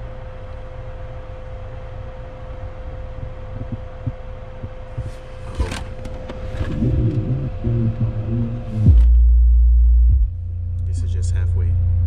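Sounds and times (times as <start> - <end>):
steady hum: 0.0 - 12.0
deep bass from subwoofers: 1.7 - 12.0.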